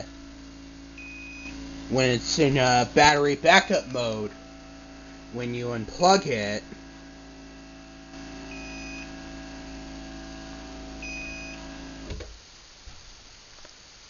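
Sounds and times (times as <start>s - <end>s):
garage door opener humming: 0.0s - 12.4s.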